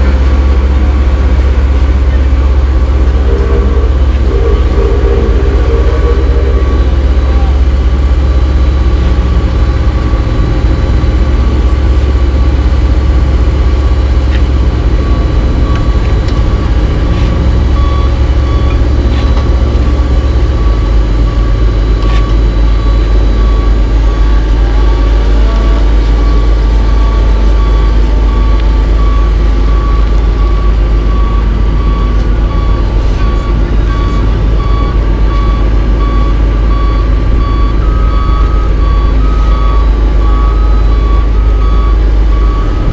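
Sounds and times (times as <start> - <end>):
backup alarm beeping: 0.0 - 42.9
heavy diesel engine running: 0.0 - 42.9
higher-pitched alarm: 1.7 - 42.9.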